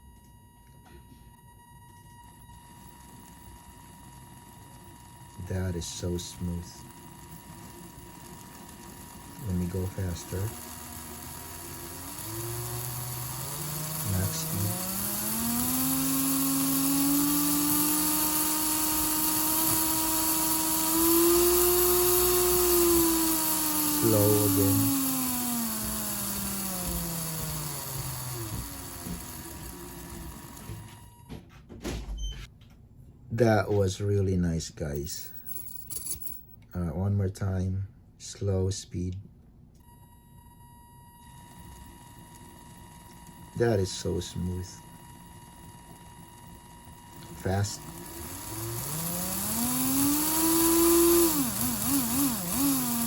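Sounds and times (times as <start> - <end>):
electric motor whine winding down: 0.0 - 31.4, 39.8 - 53.0.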